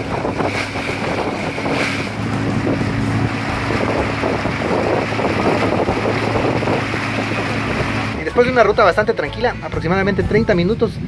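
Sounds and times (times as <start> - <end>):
water rushing past hull: 0.0 - 8.9
boat engine humming: 0.0 - 10.4
wind buffeting microphone: 0.0 - 11.0.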